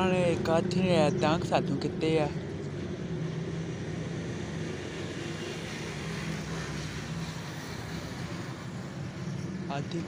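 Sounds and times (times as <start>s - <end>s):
steady engine hum: 0.0s - 10.0s.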